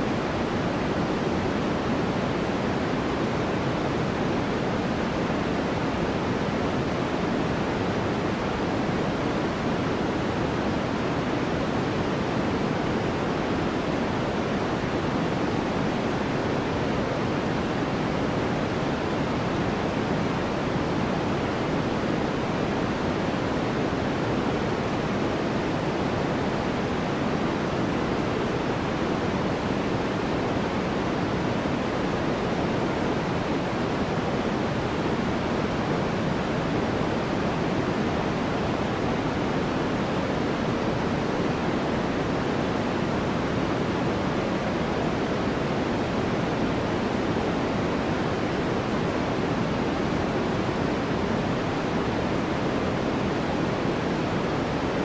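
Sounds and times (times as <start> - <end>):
steady rushing hiss noise: 0.0 - 55.0.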